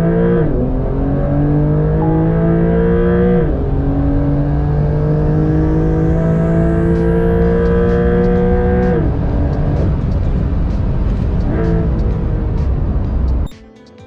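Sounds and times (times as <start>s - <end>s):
car engine at full throttle: 0.0s - 13.5s
gear upshifts: 0.0s - 13.5s.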